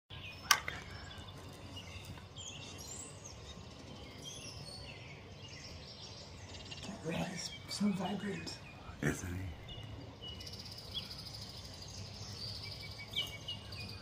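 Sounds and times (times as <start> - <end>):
songbirds chirping: 0.1 - 14.0.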